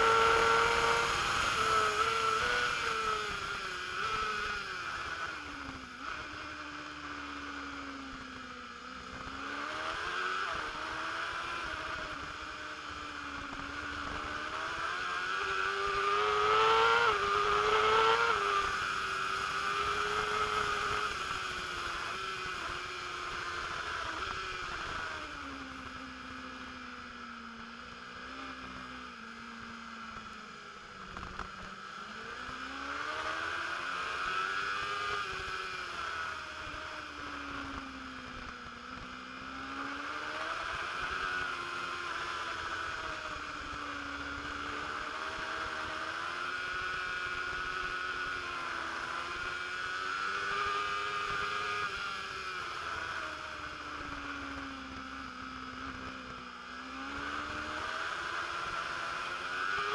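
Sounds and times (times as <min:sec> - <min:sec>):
racing motorcycle engine revving: 0:00.0 - 0:59.9.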